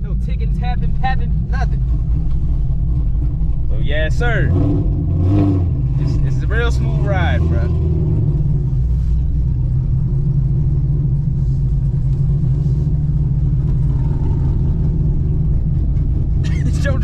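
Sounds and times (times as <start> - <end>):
car exhaust low aggressive note: 0.0 - 17.0.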